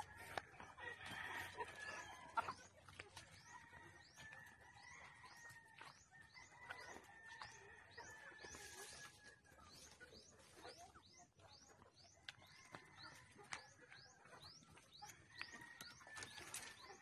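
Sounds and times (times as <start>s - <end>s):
young chickens calling softly: 0.0s - 17.0s.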